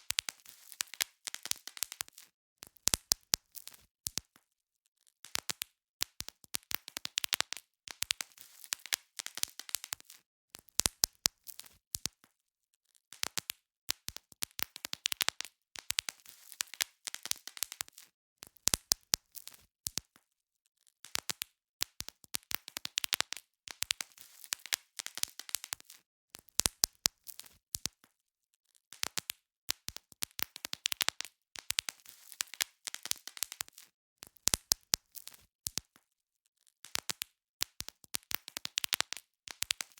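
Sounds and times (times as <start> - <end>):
bubble wrap popping: 0.0 - 4.4, 5.2 - 12.2, 13.1 - 20.2, 21.1 - 28.0, 28.9 - 36.0, 36.8 - 39.9.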